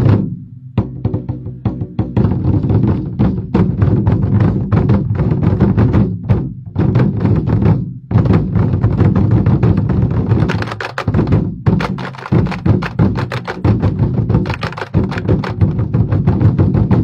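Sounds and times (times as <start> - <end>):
large drums beaten in unison: 0.0 - 17.0.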